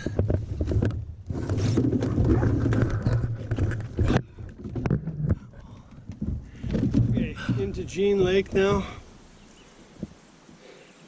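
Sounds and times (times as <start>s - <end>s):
small knocks: 0.0s - 9.0s
canoe paddling: 0.0s - 11.0s.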